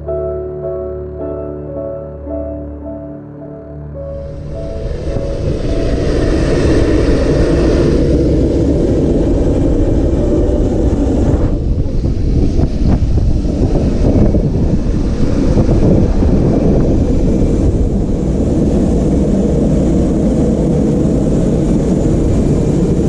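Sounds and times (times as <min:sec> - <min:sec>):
loud machine rumble: 0:03.9 - 0:23.0
windy hiss: 0:04.1 - 0:23.0.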